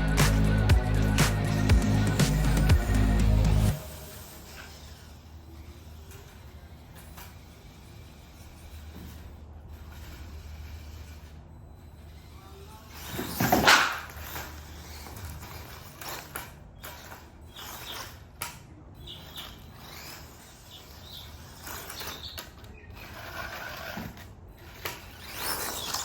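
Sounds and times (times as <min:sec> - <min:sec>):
toy truck drivetrain clattering: 0:00.3 - 0:26.0.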